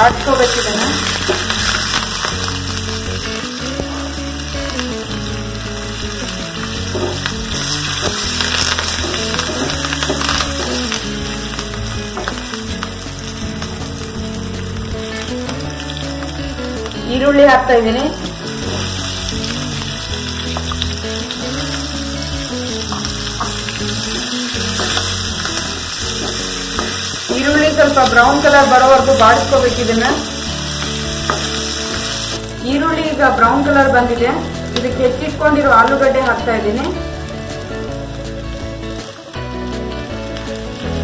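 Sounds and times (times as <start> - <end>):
chillies sizzling in hot oil: 0.0 - 41.0
soft background music: 0.0 - 41.0.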